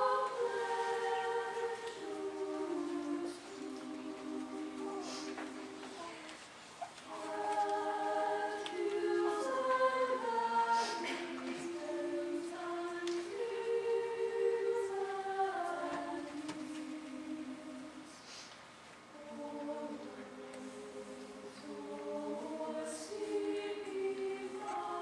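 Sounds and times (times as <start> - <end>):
choir singing in harmony: 0.0 - 6.0, 7.0 - 18.4, 19.1 - 25.0.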